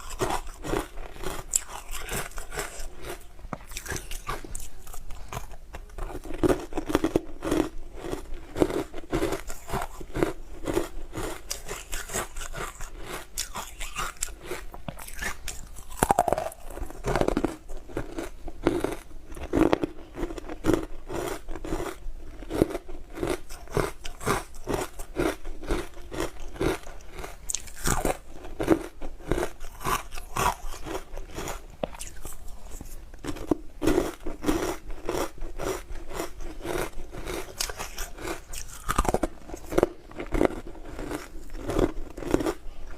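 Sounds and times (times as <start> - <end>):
crunching and chewing ice: 0.0 - 42.9.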